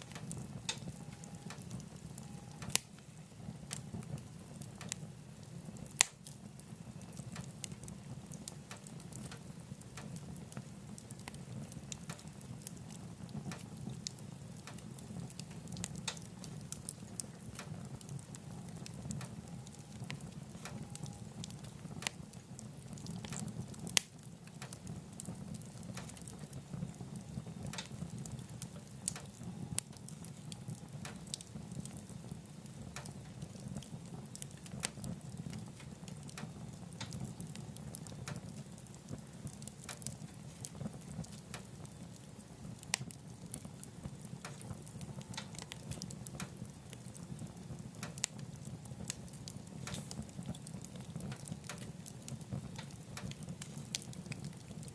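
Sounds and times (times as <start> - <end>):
fire rumbling in wood stove: 0.0 - 54.9
wood crackling and popping: 0.0 - 54.9.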